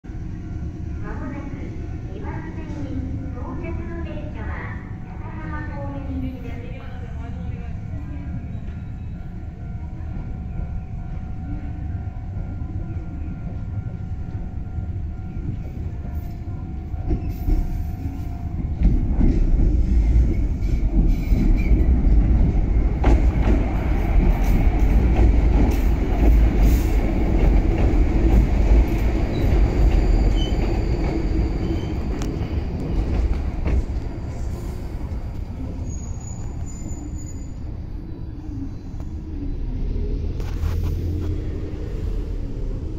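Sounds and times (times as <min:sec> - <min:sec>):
train wheels rumbling on rails: 0:00.1 - 0:38.0.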